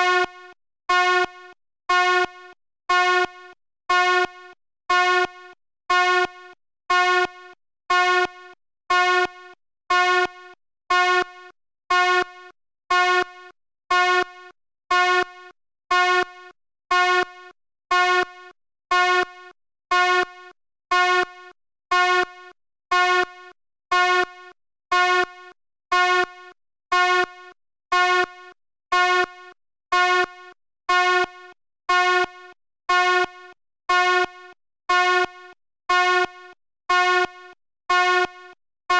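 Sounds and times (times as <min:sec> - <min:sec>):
fire alarm horn blasts: 0:00.0 - 0:38.6.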